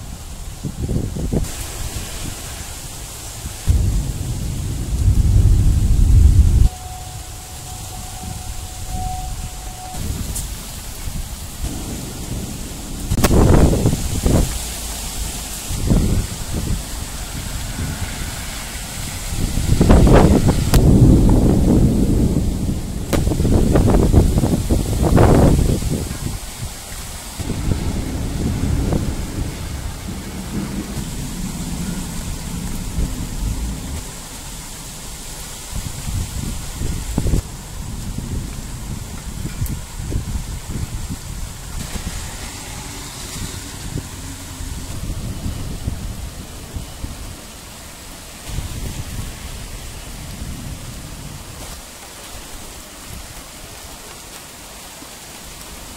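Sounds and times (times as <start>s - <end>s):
thunder rolling and rumbling: 0.0s - 51.8s
steady hiss: 0.0s - 55.9s.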